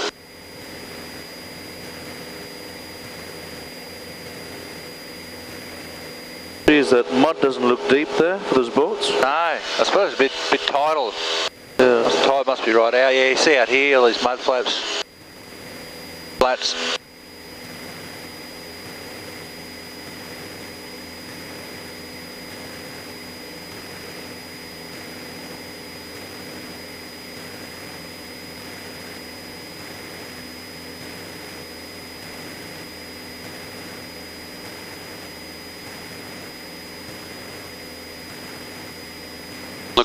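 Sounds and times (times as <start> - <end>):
high-pitched whine: 0.0 - 40.0
propeller plane engine drone: 0.0 - 40.0.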